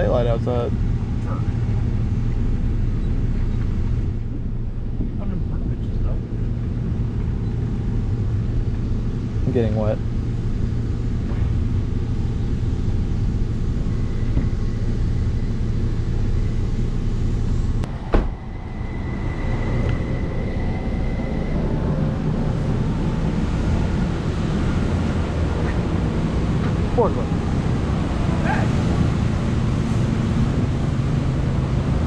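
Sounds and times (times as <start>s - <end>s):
truck engine rumbling: 0.0s - 32.0s.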